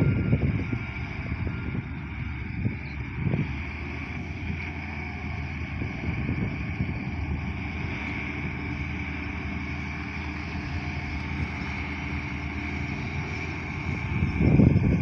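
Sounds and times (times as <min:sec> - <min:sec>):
heavy machinery diesel engine running: 0:00.0 - 0:15.0.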